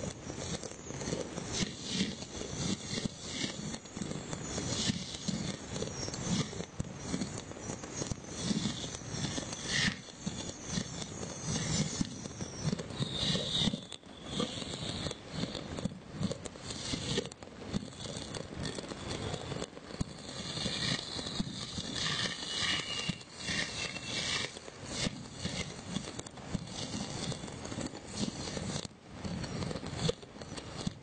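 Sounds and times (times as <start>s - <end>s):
fireworks and firecrackers crackling: 0.0s - 31.0s.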